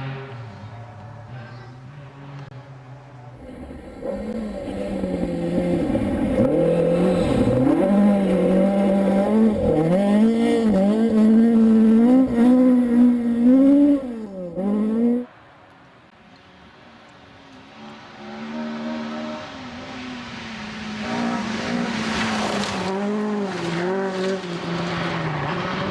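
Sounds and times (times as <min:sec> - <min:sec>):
rally car engine revving: 0:00.0 - 0:15.3, 0:17.5 - 0:25.9.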